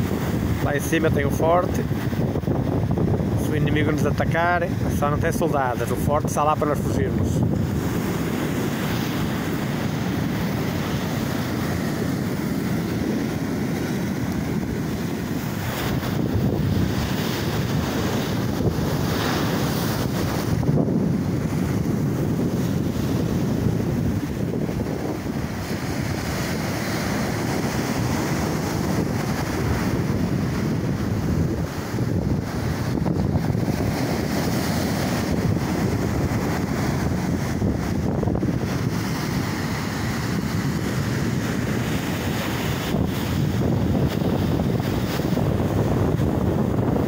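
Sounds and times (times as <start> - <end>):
ocean waves breaking: 0.0 - 47.0
wind buffeting microphone: 0.0 - 47.0.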